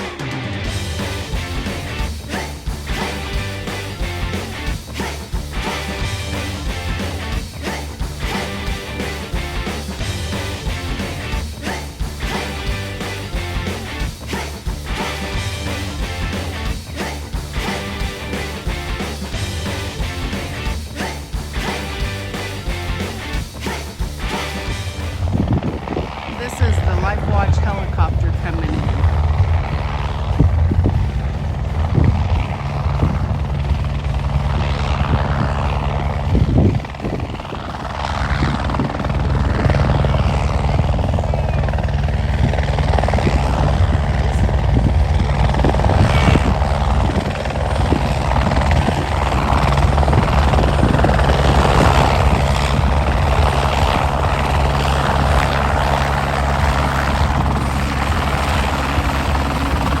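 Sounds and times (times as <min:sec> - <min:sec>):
helicopter rotor and engine: 0:00.0 - 1:00.0.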